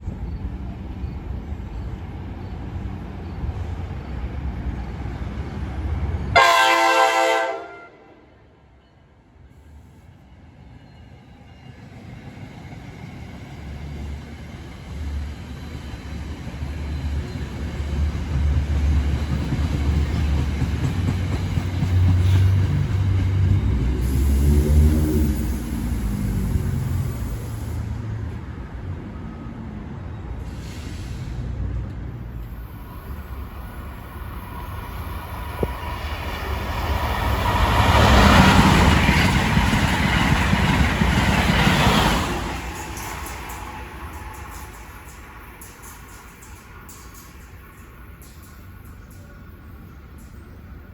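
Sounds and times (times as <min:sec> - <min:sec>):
train rumble: 0:09.4 - 0:50.9.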